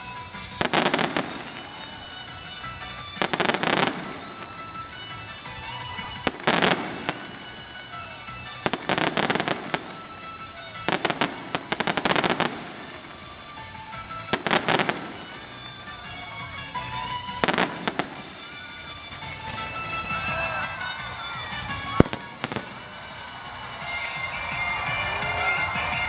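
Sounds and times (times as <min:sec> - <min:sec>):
faint background music: 0:00.0 - 0:26.0
fireworks bangs and crackles: 0:00.0 - 0:26.0.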